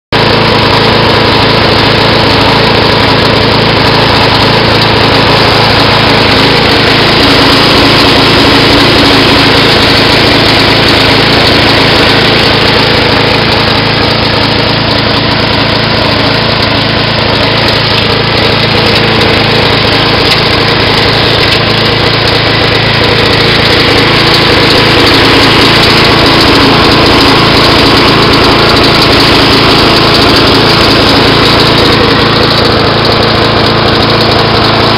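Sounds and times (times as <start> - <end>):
lawnmower engine running loudly: 0.1 - 34.9.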